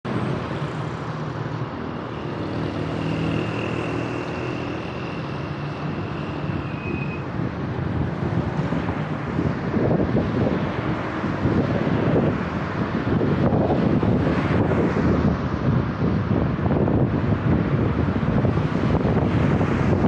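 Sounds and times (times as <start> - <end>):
vehicle engine hum and tyre noise: 0.0 - 20.0
wind buffeting microphone: 0.1 - 20.0.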